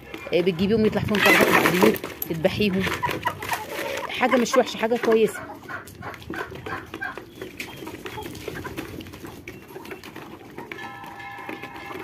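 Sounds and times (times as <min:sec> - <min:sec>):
birds pecking at grain: 0:00.0 - 0:12.0
chickens clucking: 0:00.0 - 0:12.0.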